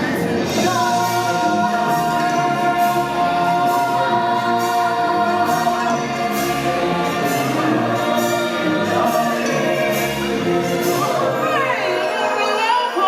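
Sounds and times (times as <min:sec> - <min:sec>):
orchestral music: 0:00.0 - 0:13.0
choir singing held notes: 0:00.1 - 0:13.0.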